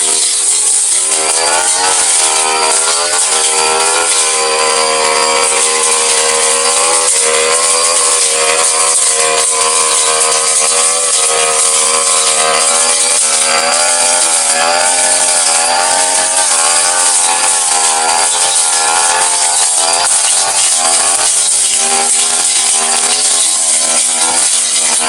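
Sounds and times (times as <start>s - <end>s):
blade cutting grass hiss: 0.0s - 25.0s
brush cutter engine running: 0.0s - 25.0s.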